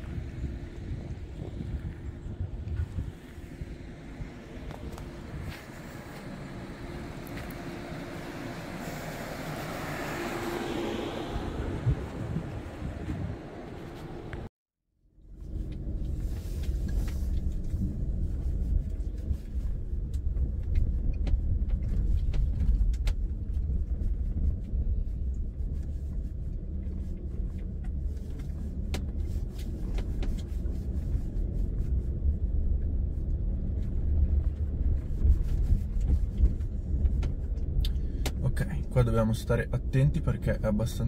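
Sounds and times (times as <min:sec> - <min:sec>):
car rumbling on gravel: 0:00.0 - 0:14.5, 0:15.3 - 0:41.0.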